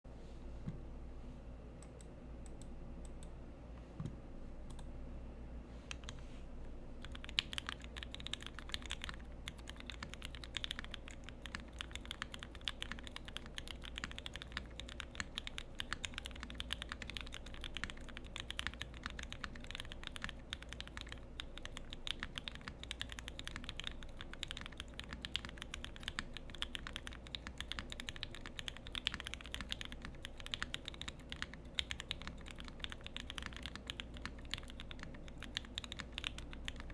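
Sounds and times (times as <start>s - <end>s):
typing on mechanical keyboard: 7.0s - 36.9s.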